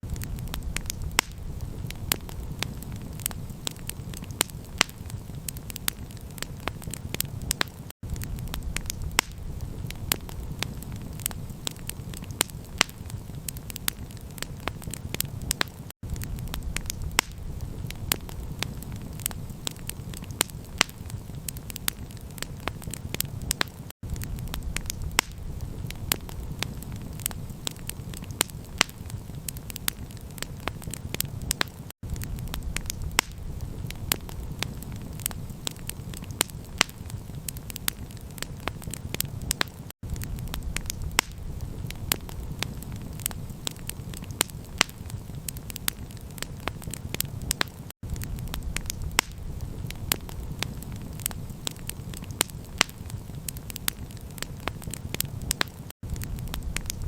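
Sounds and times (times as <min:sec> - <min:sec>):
wood campfire crackling: 0:00.0 - 0:57.0.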